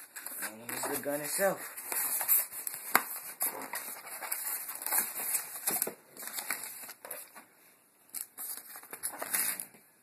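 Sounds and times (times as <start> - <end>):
packaging crackling and rustling: 0.0 - 7.4, 8.1 - 9.8.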